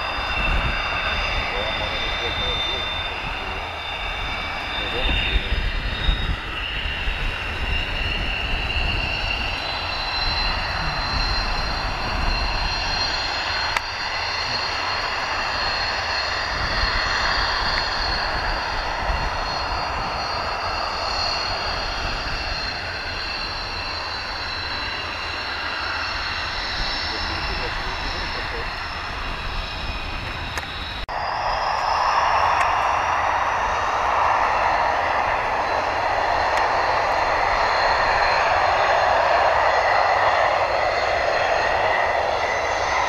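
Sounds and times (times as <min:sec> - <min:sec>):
jet engine whine and rush: 0:00.0 - 0:43.0.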